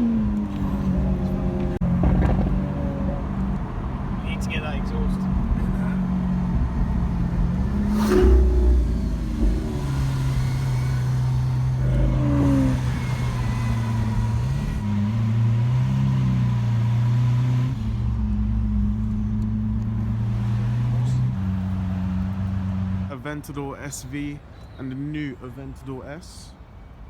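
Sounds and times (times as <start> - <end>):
sports car engine at low revs: 0.0 - 4.2, 5.0 - 23.1.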